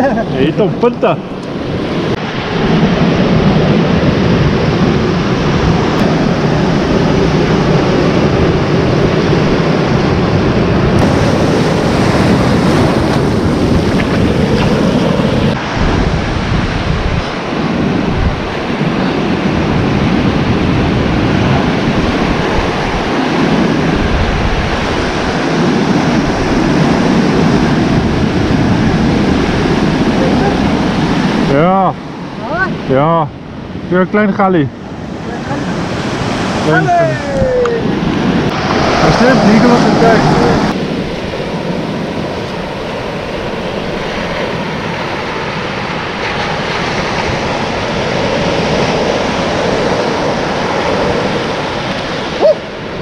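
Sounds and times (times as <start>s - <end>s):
ocean waves breaking on beach: 0.0s - 53.0s
wind buffeting microphone: 0.0s - 53.0s.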